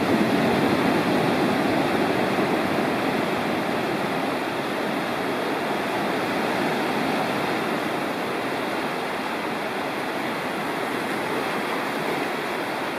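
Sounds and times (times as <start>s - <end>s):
surf breaking on stony shore: 0.0s - 12.9s.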